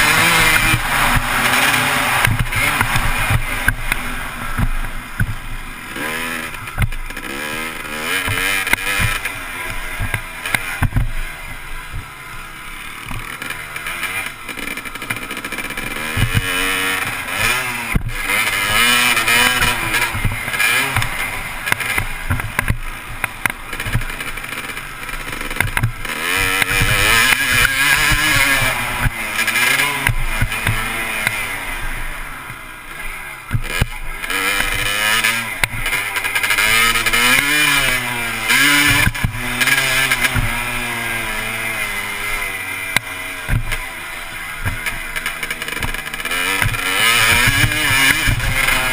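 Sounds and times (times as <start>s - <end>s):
dirt bike engine revving: 0.0s - 48.9s
sharp thumps: 0.0s - 48.9s.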